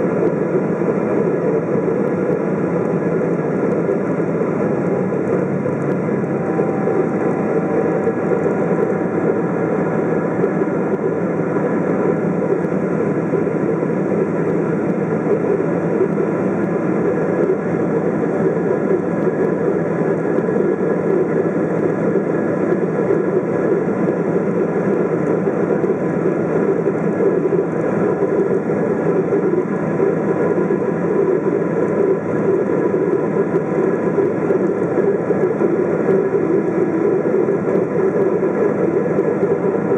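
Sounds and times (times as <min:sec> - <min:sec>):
faint steady tones: 0:00.0 - 0:39.9
jet engines droning: 0:00.0 - 0:39.9.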